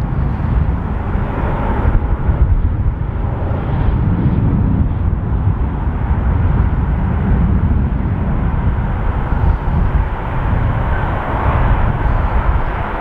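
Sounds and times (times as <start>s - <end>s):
distant freight train: 0.0s - 13.0s
distant motorway traffic rumble: 0.0s - 13.0s
wind buffeting microphone: 0.0s - 13.0s.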